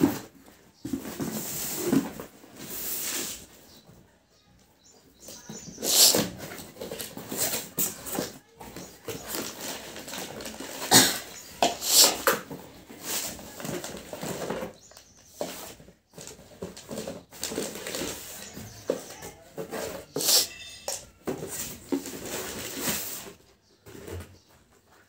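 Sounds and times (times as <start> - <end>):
cardboard and plastic rustling: 0.0 - 4.2, 5.1 - 25.0.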